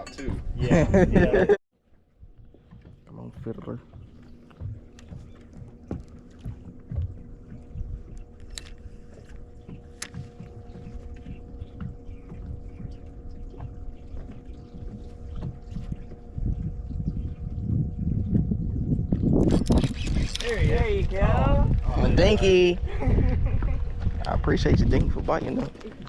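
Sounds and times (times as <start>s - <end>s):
faint steady hum: 3.8s - 24.7s
wind on microphone: 4.6s - 26.0s.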